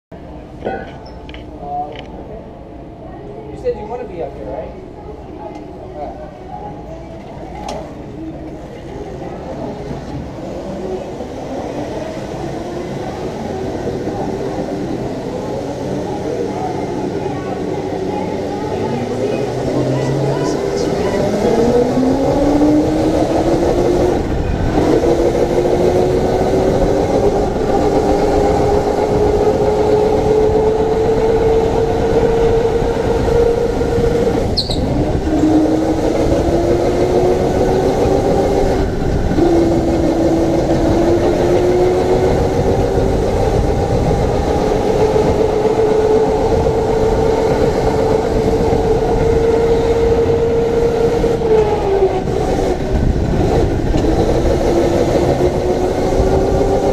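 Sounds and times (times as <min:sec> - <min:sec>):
ride rumble: 0:00.1 - 0:56.9.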